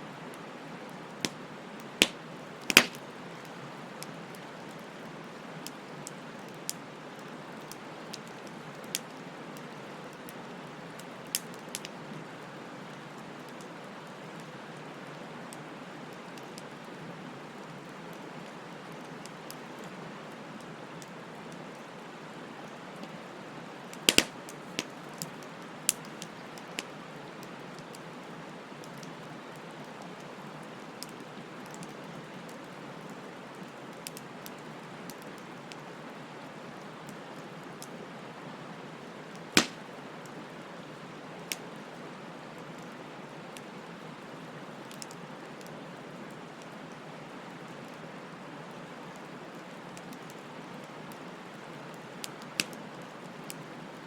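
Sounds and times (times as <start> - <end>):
wood fire crackling: 0.4 - 38.1, 39.0 - 42.0, 42.6 - 48.0, 48.8 - 54.0.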